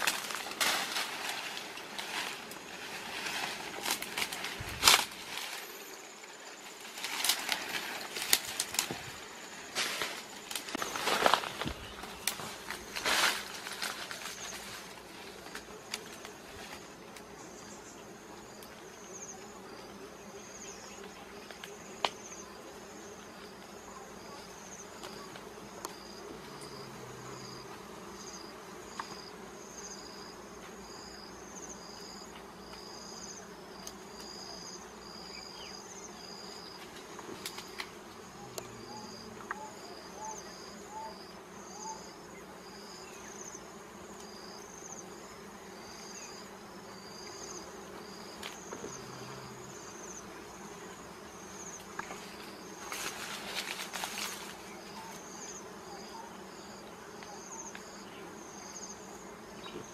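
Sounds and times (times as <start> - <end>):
bees buzzing: 0.0 - 59.9
pulsing insect chirping: 3.5 - 59.9.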